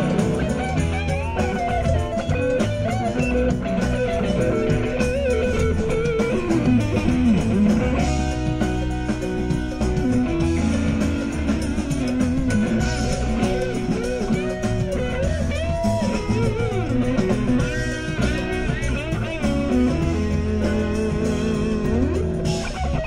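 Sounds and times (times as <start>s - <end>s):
bass line: 0.0s - 23.0s
lead guitar bending notes: 0.0s - 23.0s
rock band playing live: 0.0s - 23.0s.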